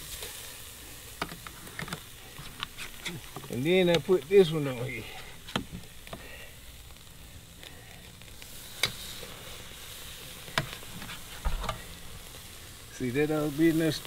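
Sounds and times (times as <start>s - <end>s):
coals flaring up: 0.0s - 14.0s
steaks sizzling on a grill: 0.0s - 14.0s.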